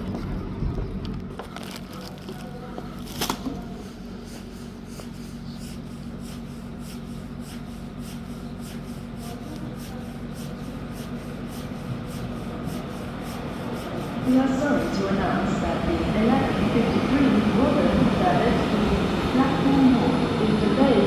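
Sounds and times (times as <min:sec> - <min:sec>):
train humming: 0:00.0 - 0:21.0.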